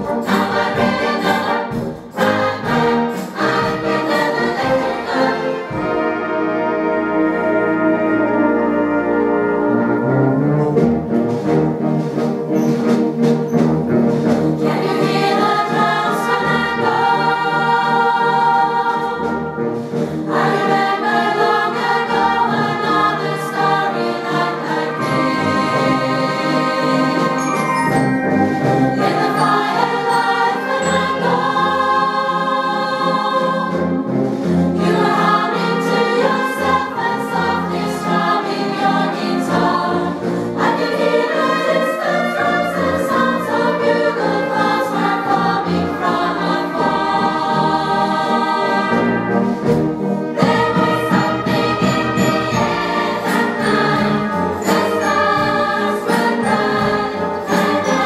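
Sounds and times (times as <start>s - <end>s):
women's choir singing: 0.0s - 6.8s, 14.6s - 34.1s, 34.7s - 58.0s
wind band playing: 0.0s - 58.0s.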